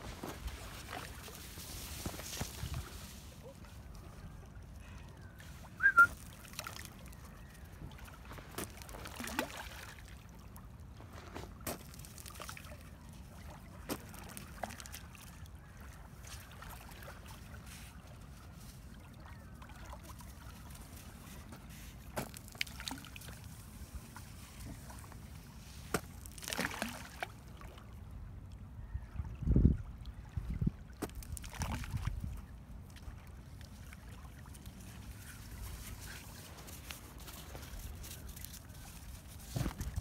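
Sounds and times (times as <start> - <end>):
water lapping at shoreline: 0.0 - 40.0.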